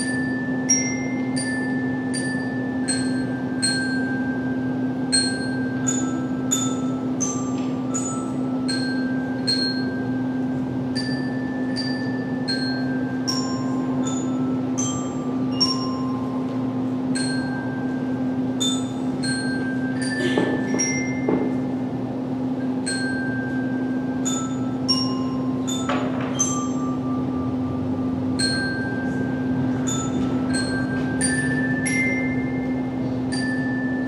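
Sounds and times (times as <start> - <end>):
steady low hum: 0.0 - 34.0
tuned metal percussion melody: 0.0 - 34.0.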